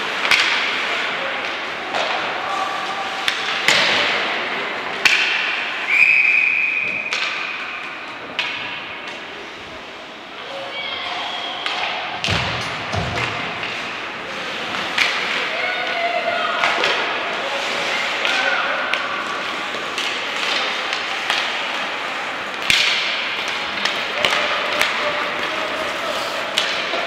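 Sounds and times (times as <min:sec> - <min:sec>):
hockey sticks and puck clacking: 0:00.0 - 0:10.2, 0:11.5 - 0:27.0.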